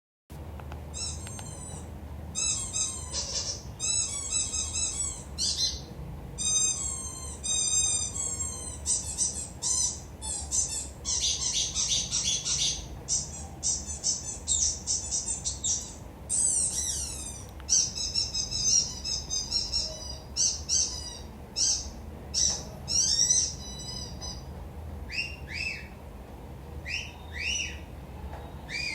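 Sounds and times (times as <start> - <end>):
steady low hum: 0.3 - 28.9
bird-like chirps and trills: 0.9 - 26.0, 26.8 - 27.9, 28.5 - 28.9.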